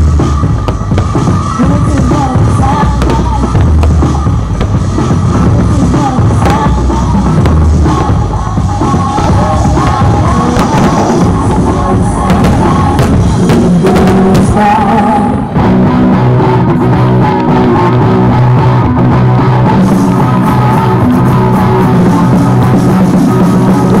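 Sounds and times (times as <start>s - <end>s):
loud rock music with singing: 0.0s - 24.0s.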